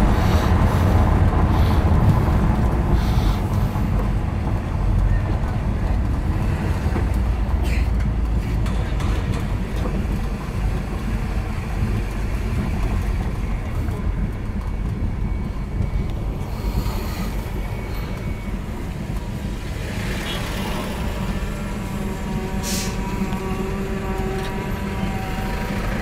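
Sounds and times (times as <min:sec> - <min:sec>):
car engine low drone: 0:00.0 - 0:26.0
road noise: 0:00.0 - 0:26.0.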